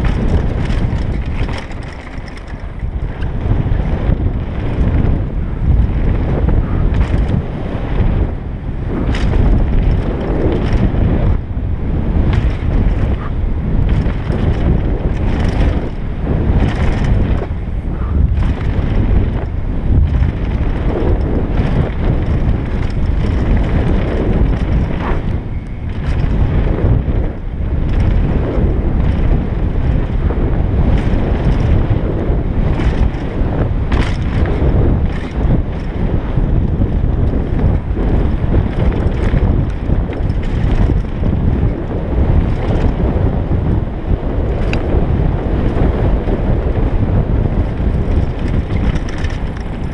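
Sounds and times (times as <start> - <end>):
bike clattering over bumps: 0.0 - 49.9
tyres rumbling on dirt: 0.0 - 49.9
wind on microphone: 0.0 - 49.9.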